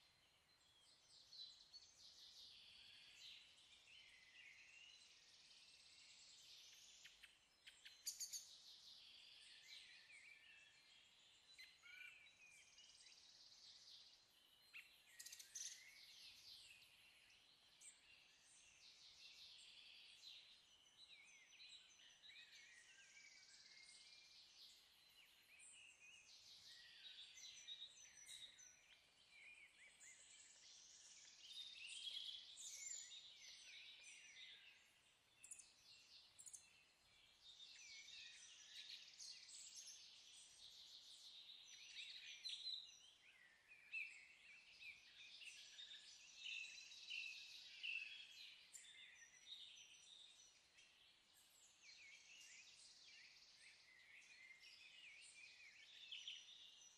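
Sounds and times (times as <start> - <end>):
faint birds chirping: 0.0 - 56.9.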